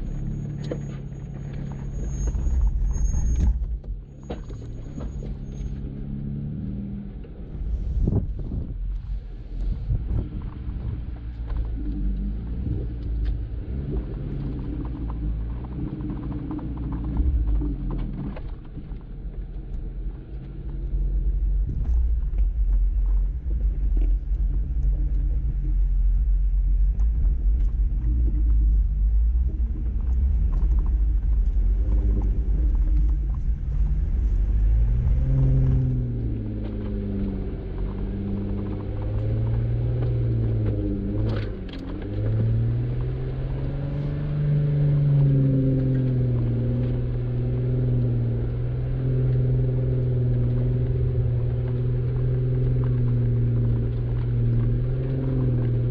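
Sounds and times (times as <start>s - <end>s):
engine and drivetrain rumble: 0.0s - 55.9s.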